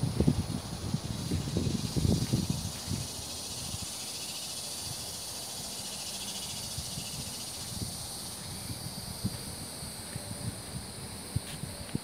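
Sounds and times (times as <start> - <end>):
riverside ambience hiss: 0.0 - 12.0
wind rumble on microphone: 0.0 - 12.0.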